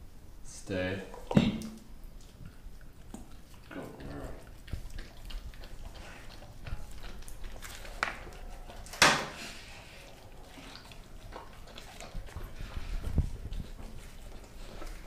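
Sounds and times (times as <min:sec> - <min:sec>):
dog chewing and crunching bone: 0:01.1 - 0:15.0.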